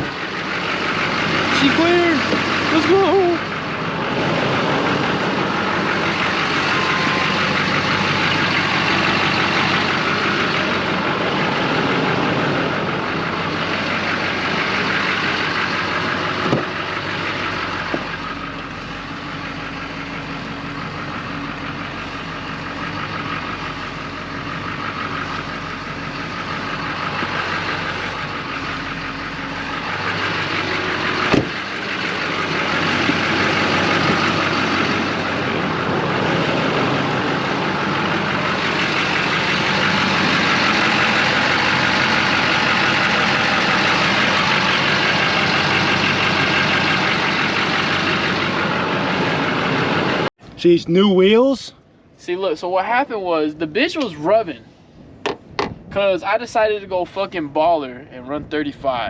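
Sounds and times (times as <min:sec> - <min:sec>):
engine knock: 0:00.0 - 0:50.3
diesel engine running: 0:00.0 - 0:59.0.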